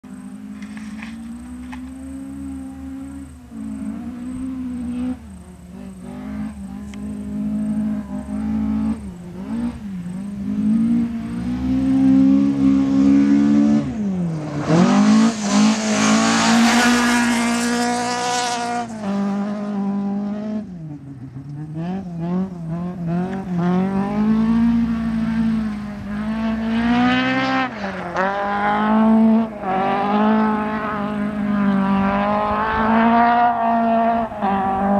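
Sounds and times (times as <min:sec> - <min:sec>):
rally car engine revving: 0:00.1 - 0:34.9.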